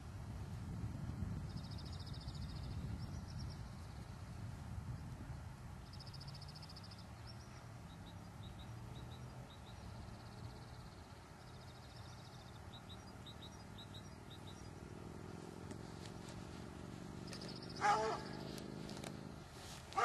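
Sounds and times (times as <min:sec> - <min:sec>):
wind rumble on microphone: 0:00.0 - 0:20.0
small birds chirping: 0:01.5 - 0:04.4, 0:05.8 - 0:20.0.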